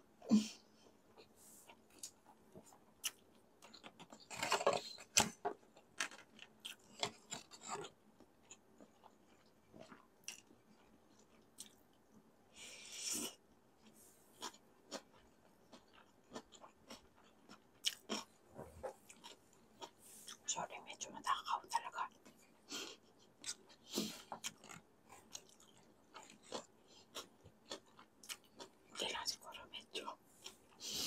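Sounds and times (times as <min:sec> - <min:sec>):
chewing noodles: 0:01.1 - 0:12.1, 0:13.0 - 0:20.5, 0:21.9 - 0:29.1.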